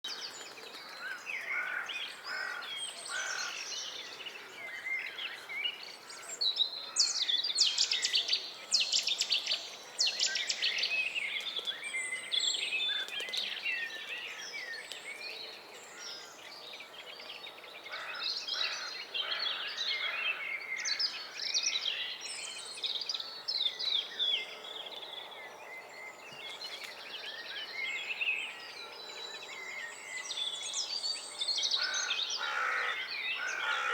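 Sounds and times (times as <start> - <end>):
small birds singing: 0.0 - 33.9.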